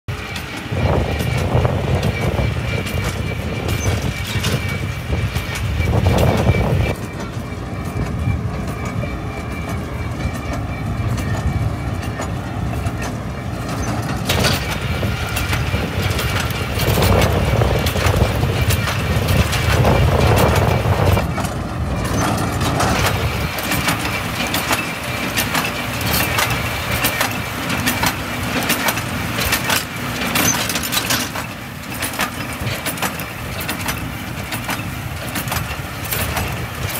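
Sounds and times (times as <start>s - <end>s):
tractor engine: 0.0s - 36.9s
baler machinery running: 0.1s - 36.9s.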